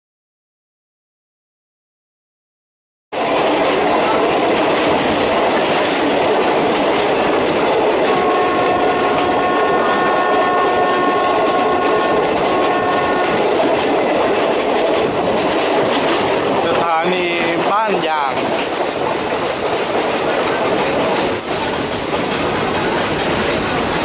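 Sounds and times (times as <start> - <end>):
rushing rail noise: 3.1 - 24.0
wheels clickety-clack: 3.2 - 24.0.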